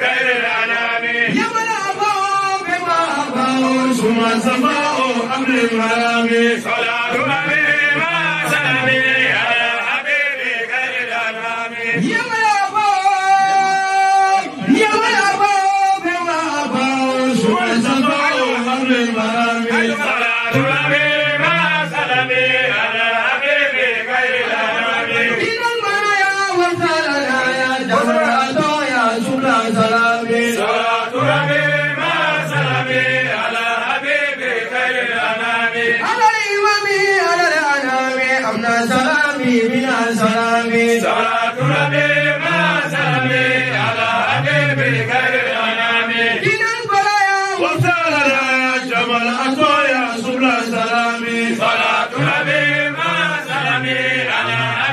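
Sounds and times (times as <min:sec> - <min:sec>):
lower voices singing along: 0:00.0 - 0:54.9
man chanting devotional song: 0:00.0 - 0:54.9.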